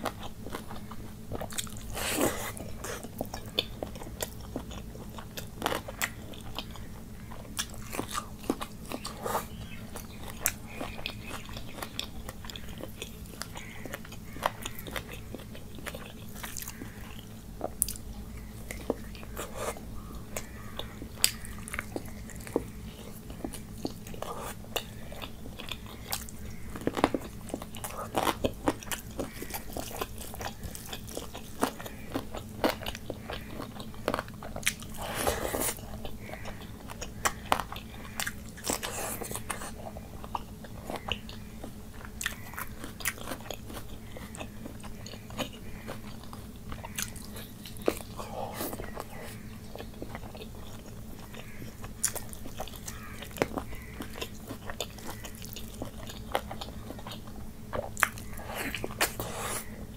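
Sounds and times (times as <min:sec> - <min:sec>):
chewing and crunching food: 0:00.0 - 0:59.9
low steady hum: 0:00.0 - 0:59.9.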